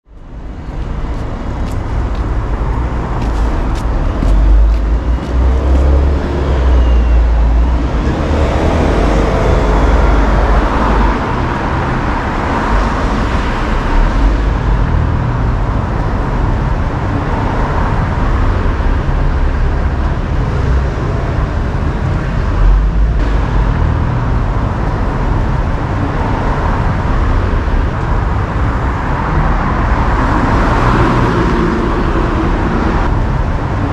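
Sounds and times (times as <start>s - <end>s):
city traffic passing: 0.0s - 33.9s.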